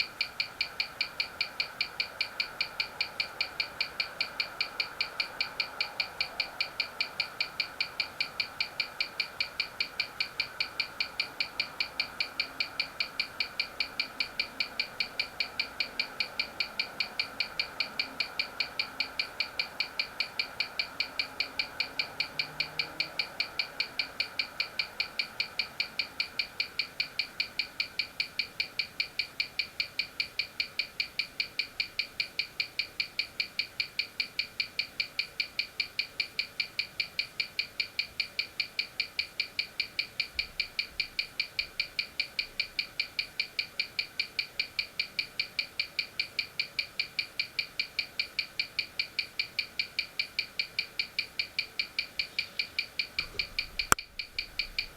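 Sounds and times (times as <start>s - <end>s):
mechanical watch ticking: 0.0s - 54.9s.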